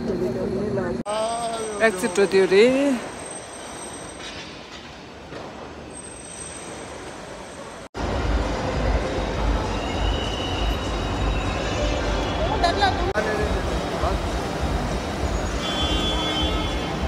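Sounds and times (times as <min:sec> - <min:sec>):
busy airport terminal ambience: 0:00.0 - 0:17.0.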